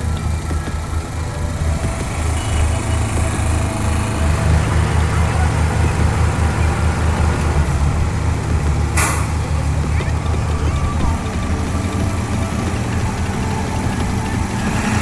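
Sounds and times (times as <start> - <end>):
heavy diesel truck engine: 0.0 - 15.0.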